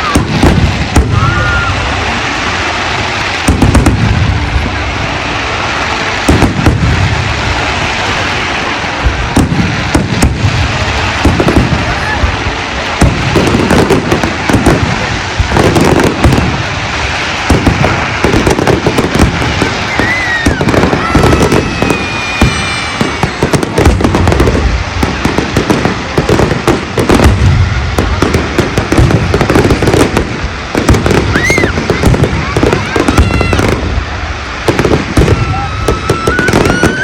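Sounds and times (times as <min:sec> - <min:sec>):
firework bangs and crackling: 0:00.0 - 0:37.0
firework whistling: 0:00.0 - 0:37.0.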